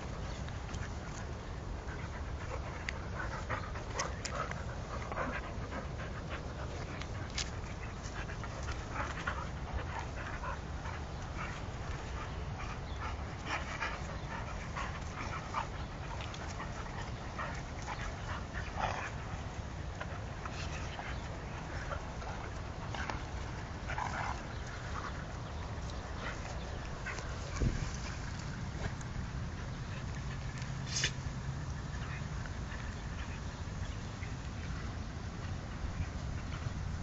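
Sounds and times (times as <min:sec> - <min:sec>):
dogs fighting and panting: 0:00.0 - 0:37.0
steady low rumble: 0:00.0 - 0:37.0.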